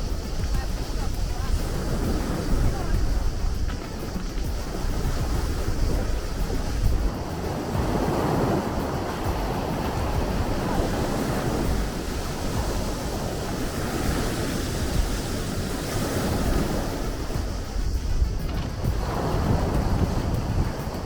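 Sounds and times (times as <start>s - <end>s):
sea waves washing: 0.0s - 21.0s.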